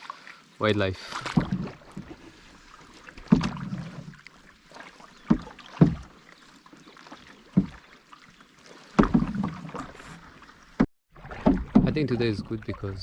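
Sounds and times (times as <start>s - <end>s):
water swishing: 0.0s - 13.0s
paddle knocks and splashes: 1.0s - 13.0s.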